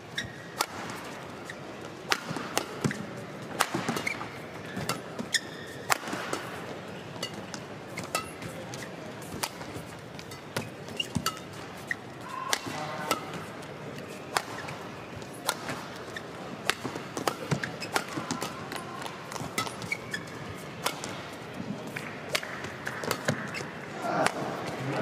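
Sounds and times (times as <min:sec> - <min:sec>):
shoes squeaking on court: 0:00.0 - 0:23.9
arena hall background noise: 0:00.0 - 0:25.0
rackets hitting shuttlecock: 0:00.2 - 0:01.2, 0:02.1 - 0:24.8.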